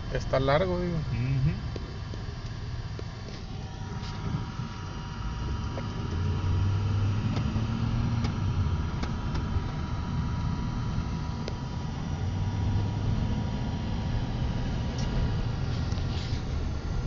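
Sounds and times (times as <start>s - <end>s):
car engine and road drone: 0.0s - 17.0s.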